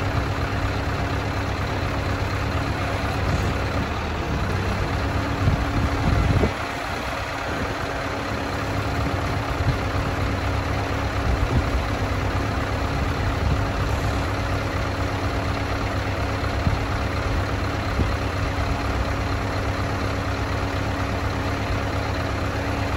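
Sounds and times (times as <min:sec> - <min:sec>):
truck diesel engine idling: 0:00.0 - 0:22.9.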